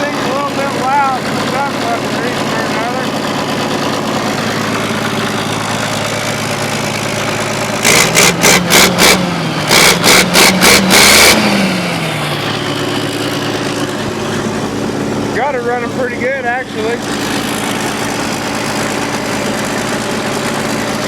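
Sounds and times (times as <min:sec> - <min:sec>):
car engine idling: 0:00.0 - 0:21.0
loud engine bursts: 0:00.0 - 0:21.0.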